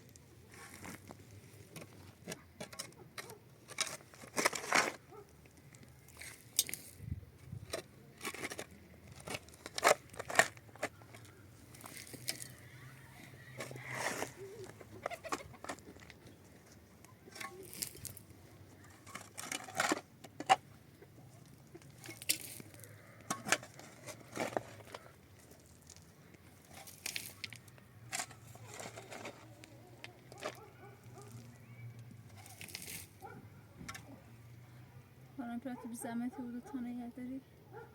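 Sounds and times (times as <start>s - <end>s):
objects clicking and knocking: 0.8s - 12.6s, 13.6s - 33.2s.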